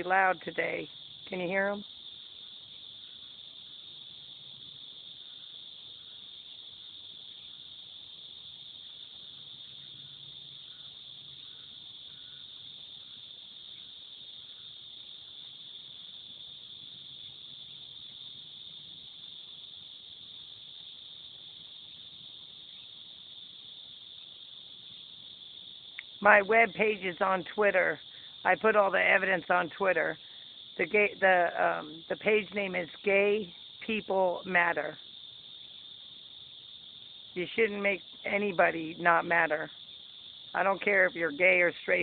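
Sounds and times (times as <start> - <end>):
cicadas buzzing: 0.0 - 42.0.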